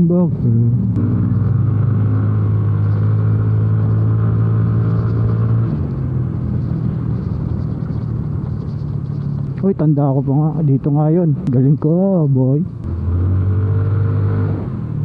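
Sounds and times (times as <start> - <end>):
road rush: 0.0 - 15.0
wind: 0.0 - 15.0.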